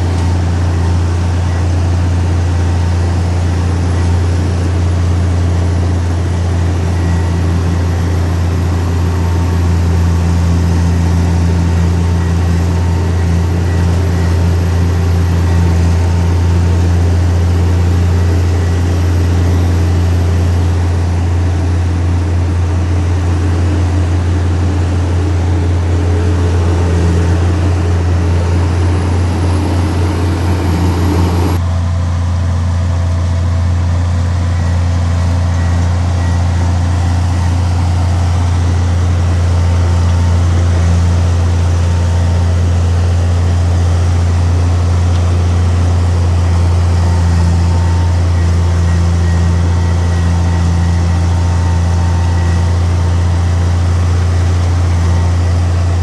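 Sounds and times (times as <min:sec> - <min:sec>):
diesel engine droning: 0:00.0 - 0:56.0
high-pitched machine noise: 0:00.0 - 0:56.0.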